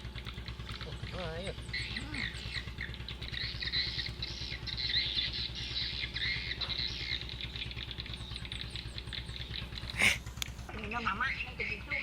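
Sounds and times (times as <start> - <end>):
low steady hum: 0.0 - 12.0
small birds chirping: 0.0 - 12.0.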